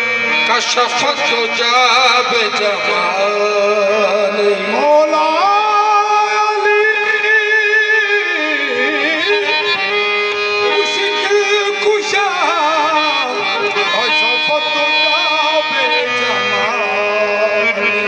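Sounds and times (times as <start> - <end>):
harmoniums: 0.0 - 18.0
man singing long notes: 0.0 - 18.0.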